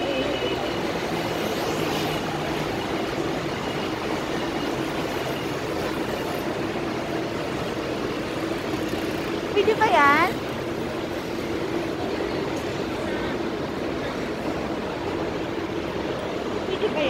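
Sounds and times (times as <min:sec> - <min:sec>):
passing traffic: 0:00.0 - 0:17.0.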